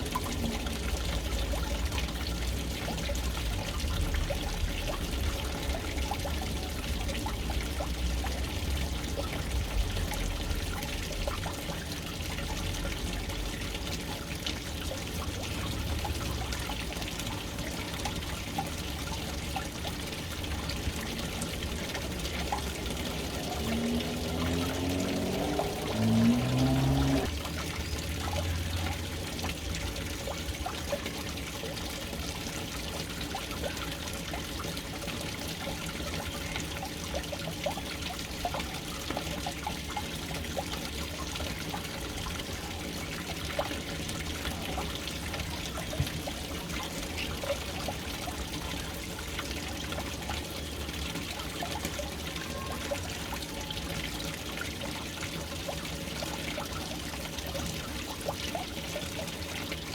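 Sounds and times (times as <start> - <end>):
water drips and splashes: 0.0 - 59.9
water pouring into tank: 0.0 - 59.9.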